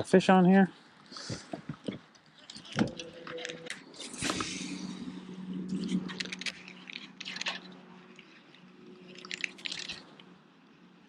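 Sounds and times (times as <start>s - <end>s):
fishing gear clicking and scraping: 0.9s - 11.0s
low electric motor hum: 1.6s - 11.0s.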